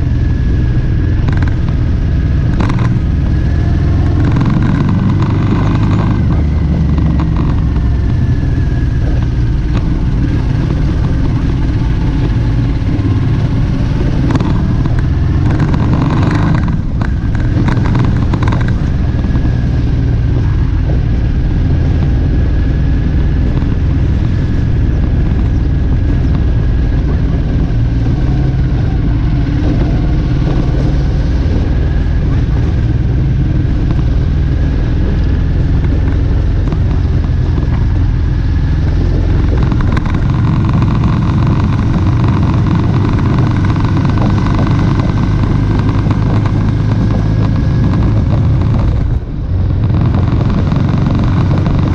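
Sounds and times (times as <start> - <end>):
motorcycle engine running: 0.0 - 51.9
wind rush on microphone: 0.0 - 51.9.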